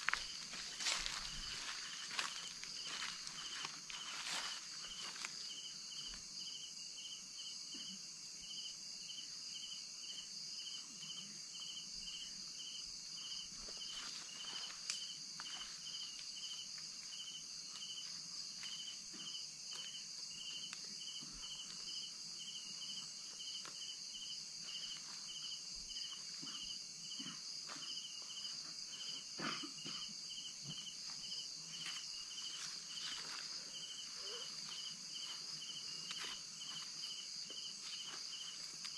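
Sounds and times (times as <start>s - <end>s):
cricket-like chirping: 0.0s - 38.9s
insects droning: 0.0s - 38.9s.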